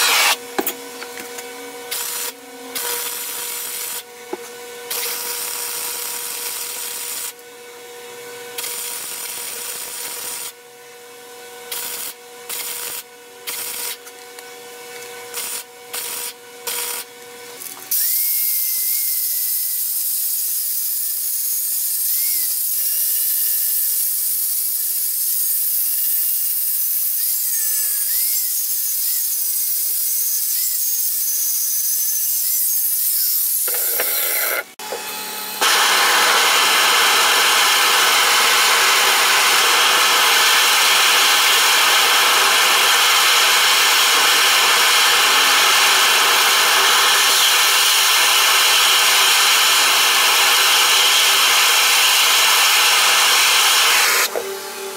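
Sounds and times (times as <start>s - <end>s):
arc welding: 0.0s - 0.8s, 1.8s - 4.1s, 4.8s - 7.5s, 8.4s - 10.6s, 11.6s - 14.3s, 14.9s - 54.4s
angle grinder grinding steel: 0.0s - 7.4s, 11.6s - 54.9s.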